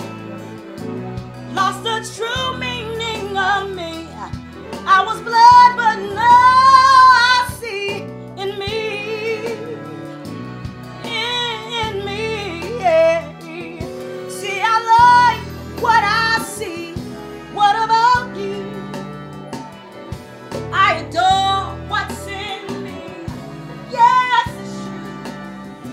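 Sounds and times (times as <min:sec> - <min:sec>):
musical accompaniment: 0:00.0 - 0:25.9
woman singing gospel song: 0:01.5 - 0:10.0, 0:11.0 - 0:19.1, 0:20.7 - 0:25.2.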